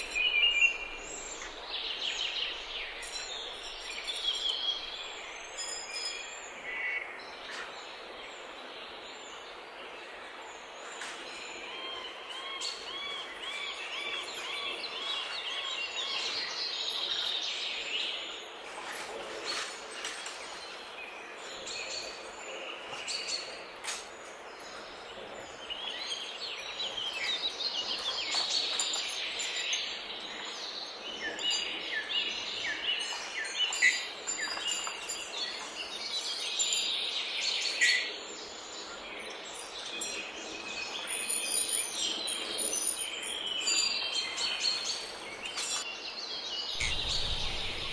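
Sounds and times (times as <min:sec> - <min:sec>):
birds chirping: 0:00.0 - 0:47.9
steady background hiss: 0:00.0 - 0:47.9.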